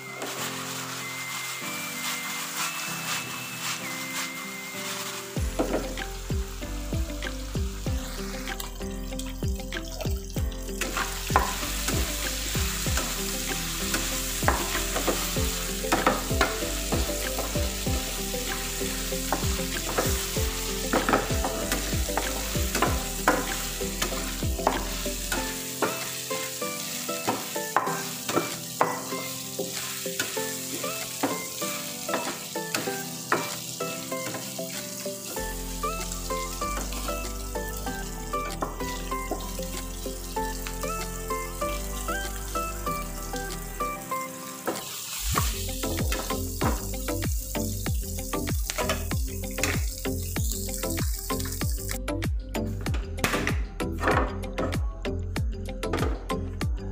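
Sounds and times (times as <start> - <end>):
meat sizzling in a frying pan: 0.0 - 52.0.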